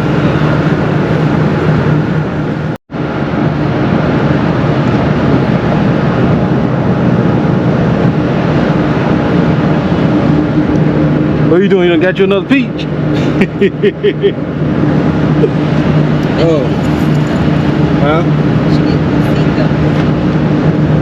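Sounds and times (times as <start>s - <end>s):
ship engines droning: 0.0s - 21.0s
wind buffeting microphone: 0.0s - 21.0s.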